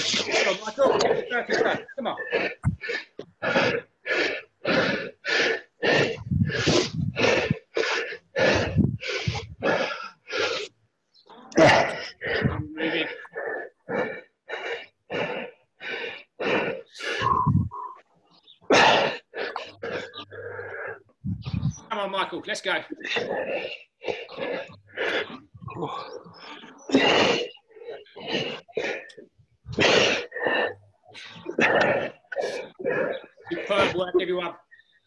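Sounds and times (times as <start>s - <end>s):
person panting hard: 0.0s - 10.7s, 11.6s - 17.9s, 18.8s - 21.8s, 23.2s - 34.0s.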